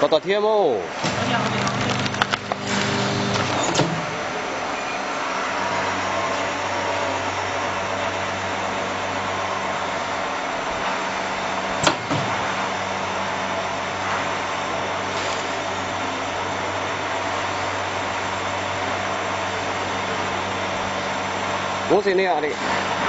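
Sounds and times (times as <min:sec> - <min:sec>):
vacuum packing machine humming: 0:00.6 - 0:23.0.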